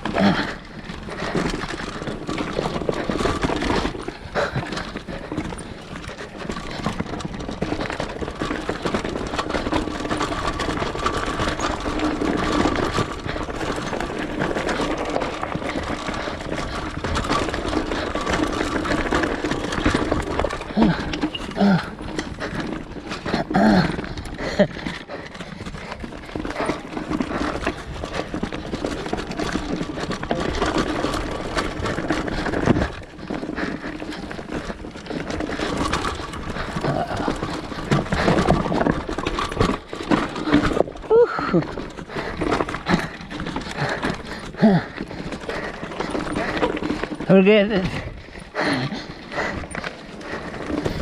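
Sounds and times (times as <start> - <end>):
off-road vehicle engine running: 0.0 - 51.0.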